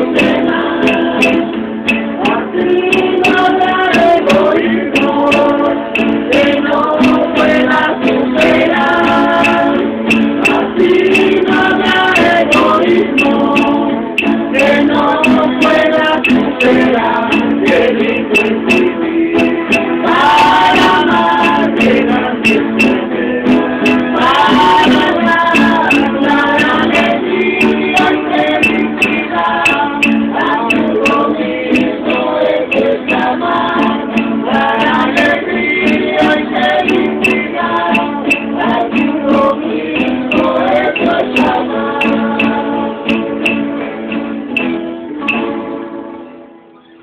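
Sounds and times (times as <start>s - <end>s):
group singing a hymn: 0.0s - 46.3s
acoustic guitars strumming: 0.0s - 47.0s.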